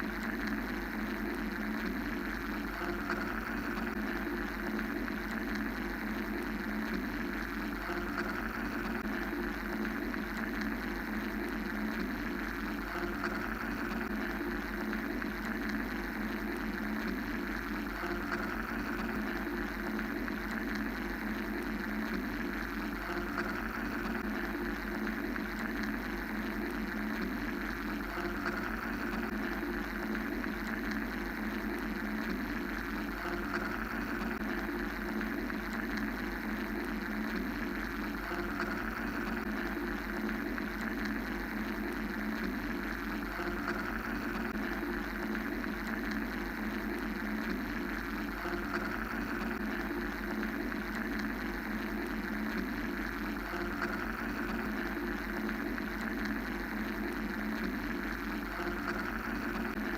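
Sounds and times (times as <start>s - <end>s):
mechanical white-noise drone: 0.0s - 59.9s.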